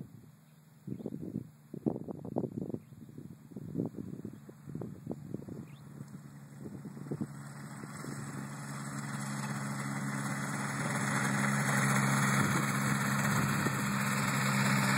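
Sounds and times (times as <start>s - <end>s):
microlight engine and propeller drone: 0.0s - 14.9s.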